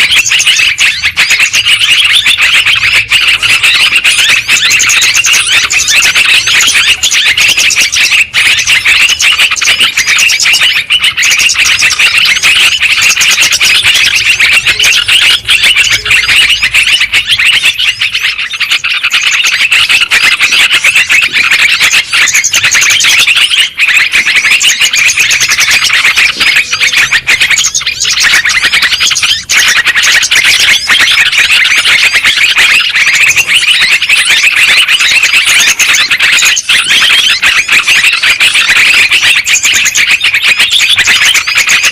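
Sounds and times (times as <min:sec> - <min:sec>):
bulbul song chattering: 0:00.0 - 0:41.9.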